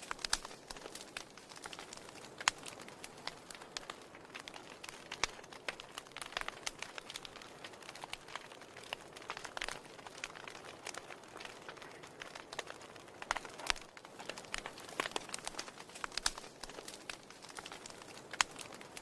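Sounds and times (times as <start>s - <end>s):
firewood crackling in fireplace: 0.0s - 19.0s.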